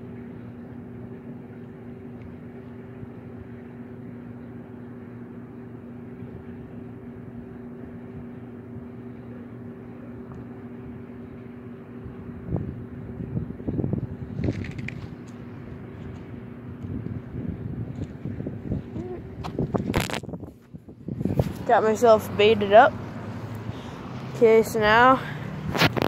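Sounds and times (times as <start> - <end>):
two-tone machine hum: 0.0 - 26.0.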